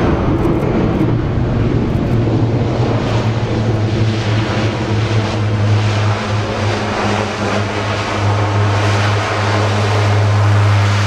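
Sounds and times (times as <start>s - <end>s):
low propeller hum: 0.0s - 11.0s
turboprop engine roar: 0.0s - 11.0s.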